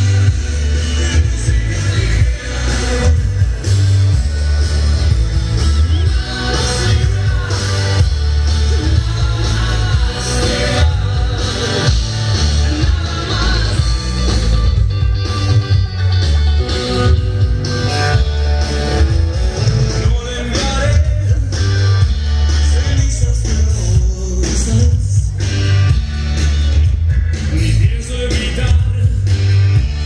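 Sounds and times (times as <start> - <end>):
loud music with singing and bass: 0.0 - 30.0.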